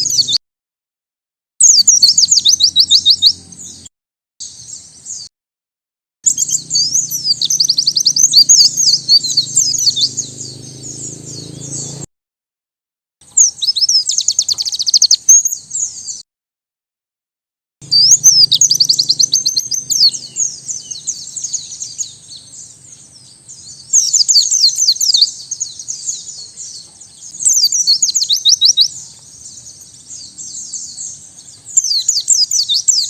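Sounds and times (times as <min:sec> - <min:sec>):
bird chirping and trilling: 0:00.0 - 0:00.4, 0:01.6 - 0:05.3, 0:06.3 - 0:12.1, 0:13.2 - 0:16.2, 0:17.8 - 0:33.0.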